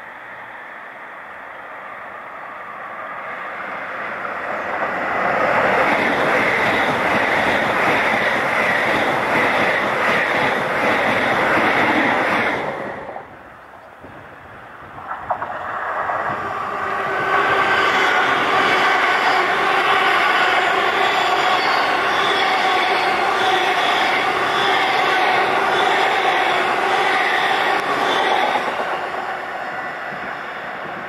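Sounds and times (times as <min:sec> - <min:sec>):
train approaching with hum: 0:00.0 - 0:31.0
train passing at speed: 0:00.0 - 0:31.0.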